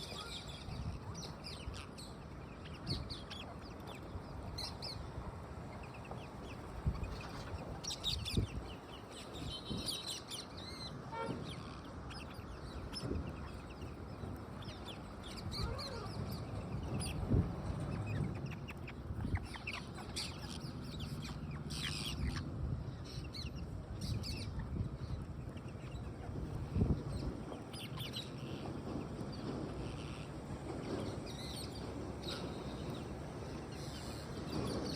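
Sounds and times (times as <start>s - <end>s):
birds squawking and chirping: 0.0s - 34.9s
steady background noise: 0.0s - 34.9s.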